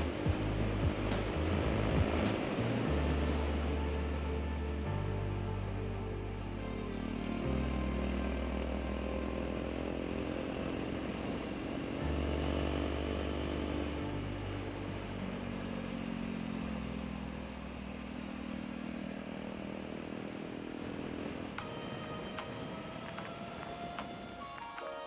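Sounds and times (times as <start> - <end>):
motorcycle engine running: 0.0 - 24.4.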